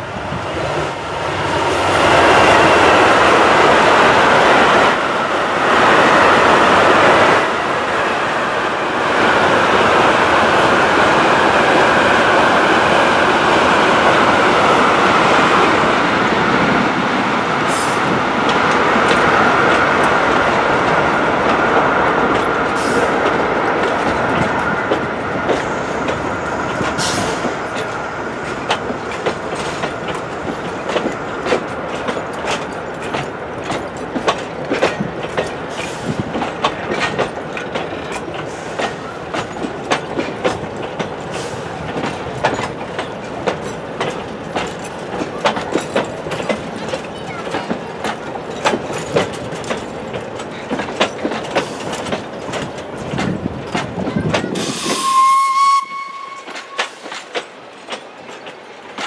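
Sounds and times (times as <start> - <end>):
diesel locomotive running: 0.0 - 59.0
train wheels clicking over rail joints: 9.1 - 55.2, 55.9 - 59.0.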